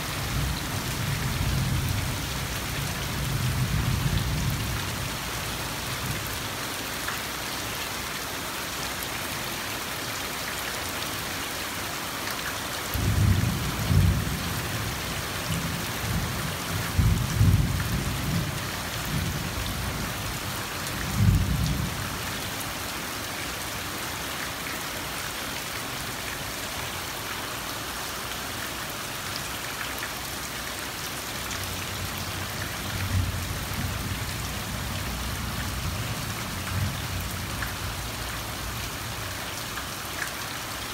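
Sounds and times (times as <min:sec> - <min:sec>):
rain falling on plants: 0:00.0 - 0:40.9.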